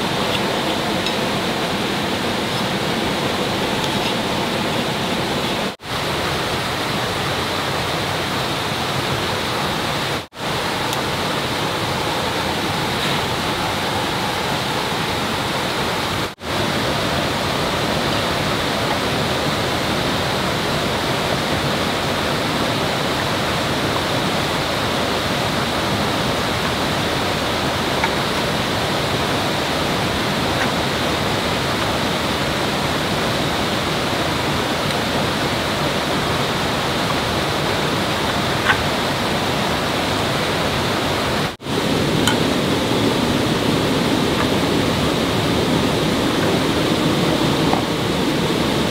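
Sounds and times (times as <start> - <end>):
flowing water rushing: 0.0 - 48.9.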